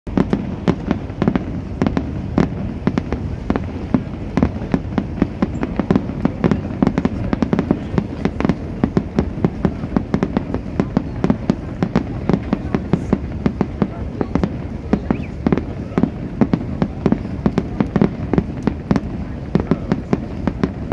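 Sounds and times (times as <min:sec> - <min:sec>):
fireworks bangs: 0:00.1 - 0:20.9
low rumble: 0:00.1 - 0:20.9.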